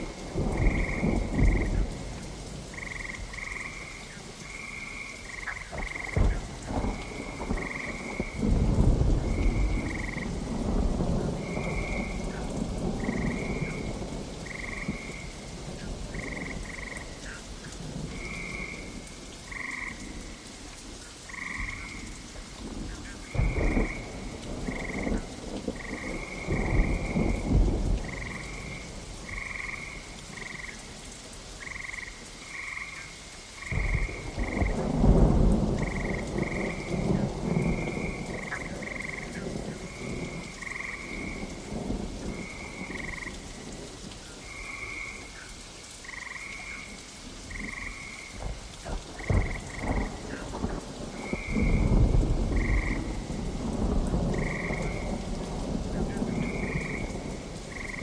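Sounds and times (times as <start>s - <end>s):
thunder rumbling: 0.0s - 20.4s, 21.3s - 31.0s, 33.6s - 45.4s, 46.0s - 58.0s
frogs croaking: 0.0s - 58.0s
steady rain: 0.0s - 58.0s.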